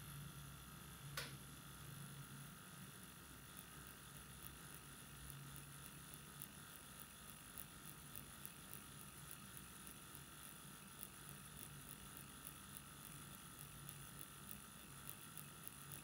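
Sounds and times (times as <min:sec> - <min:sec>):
tattoo machine humming: 0:00.0 - 0:16.0.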